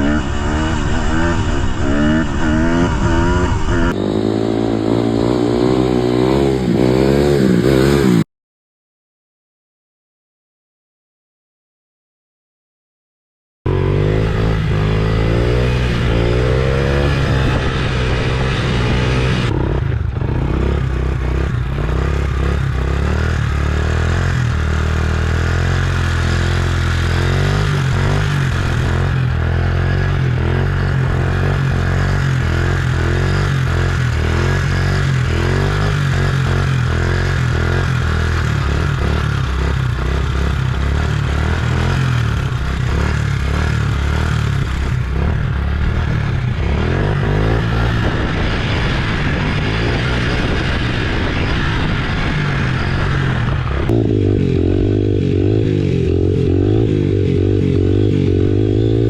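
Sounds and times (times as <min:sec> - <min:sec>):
dirt bike engines revving: 0:00.0 - 0:08.2, 0:13.7 - 0:59.0.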